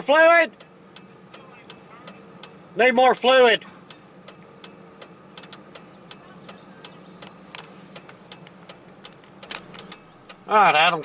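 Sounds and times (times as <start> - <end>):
low steady hum: 0.0 - 11.0
hazard flasher relay clicking: 0.5 - 2.7, 3.8 - 11.0.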